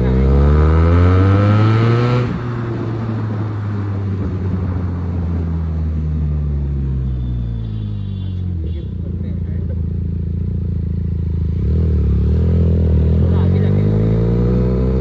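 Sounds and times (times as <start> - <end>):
motorcycle engine revving: 0.0 - 7.4, 9.0 - 15.0.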